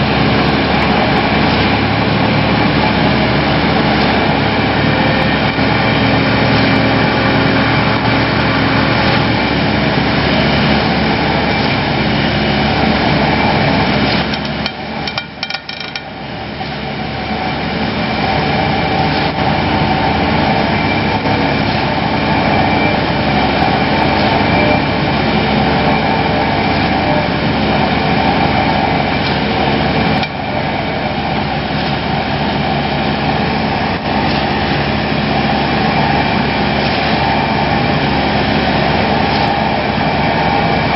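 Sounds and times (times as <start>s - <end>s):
vibratory pile hammer and diesel engine: 0.0s - 40.9s.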